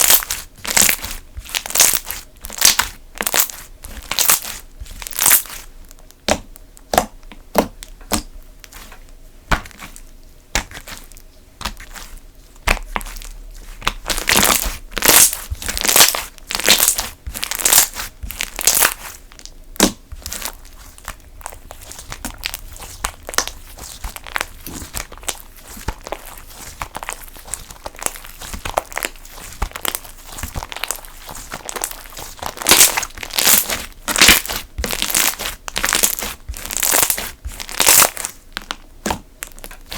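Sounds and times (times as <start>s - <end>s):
slime crackling and popping: 0.0s - 9.0s, 9.6s - 39.9s.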